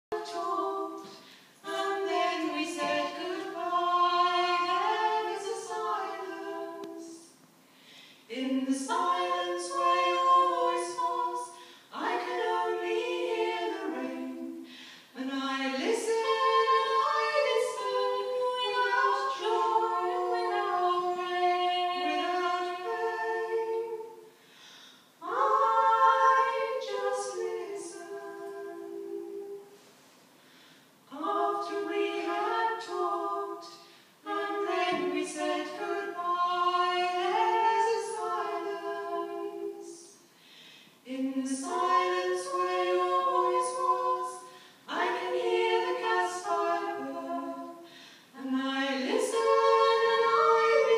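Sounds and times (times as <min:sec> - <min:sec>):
women singing in harmony: 0:00.0 - 0:07.4, 0:08.2 - 0:24.4, 0:25.2 - 0:29.8, 0:31.1 - 0:40.4, 0:41.0 - 0:50.9.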